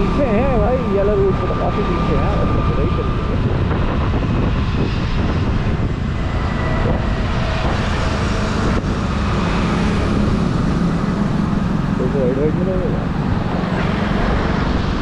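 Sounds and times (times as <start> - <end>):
passing motorbikes: 0.0 - 15.0
road noise: 0.0 - 15.0
wind rush: 0.0 - 15.0.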